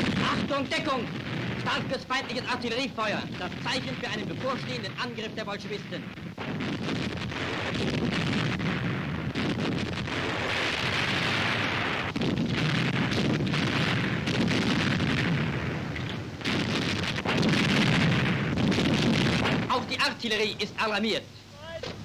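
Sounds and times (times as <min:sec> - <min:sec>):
artillery shells bursting: 0:00.0 - 0:22.0.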